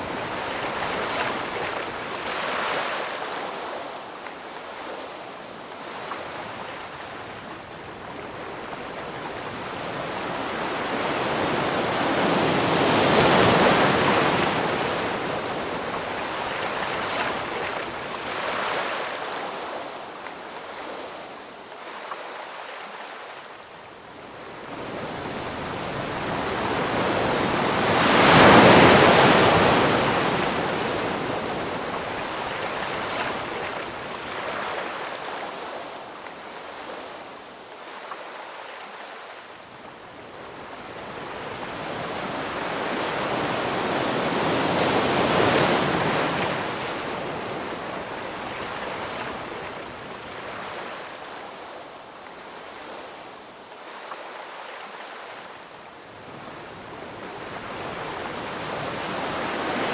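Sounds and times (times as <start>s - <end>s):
ocean waves crashing: 0.0s - 5.0s, 5.8s - 21.2s, 24.4s - 37.2s, 40.4s - 51.7s, 56.2s - 59.9s
soft surf wash: 0.0s - 59.9s.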